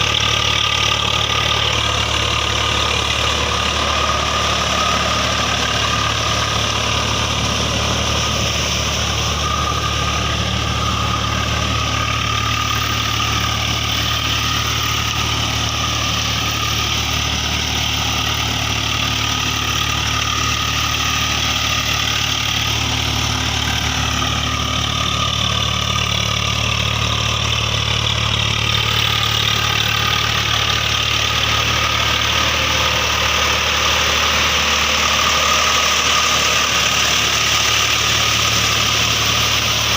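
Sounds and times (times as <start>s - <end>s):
tractor diesel engine idling low: 0.0s - 39.9s.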